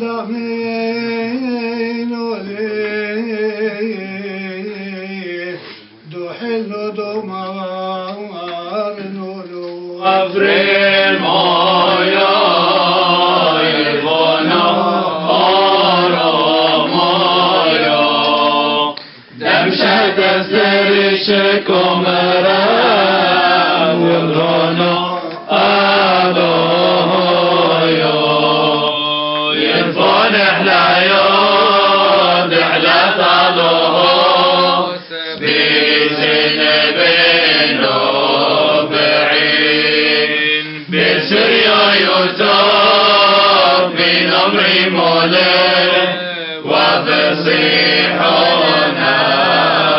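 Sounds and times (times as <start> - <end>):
men chanting a hymn: 0.0 - 49.9.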